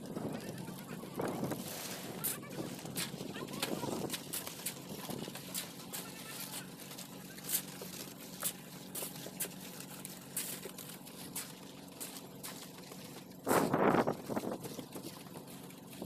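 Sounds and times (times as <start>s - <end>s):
low machine hum: 0.0s - 16.0s
shovels scraping wet concrete: 1.4s - 14.5s.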